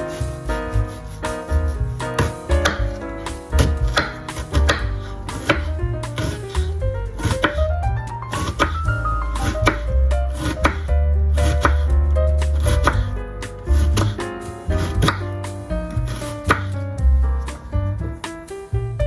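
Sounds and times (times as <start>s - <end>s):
bass line: 0.0s - 19.0s
beat of sharp knocks: 0.3s - 16.8s.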